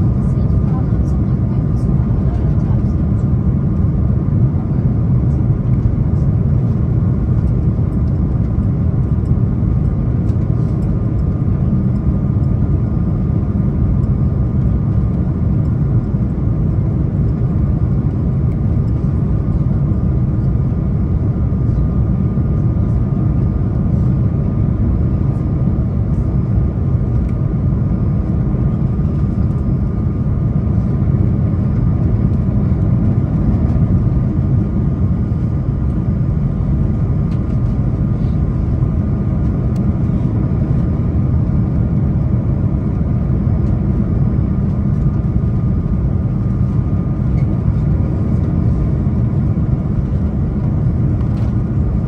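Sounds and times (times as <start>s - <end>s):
jet engines humming: 0.0s - 52.0s.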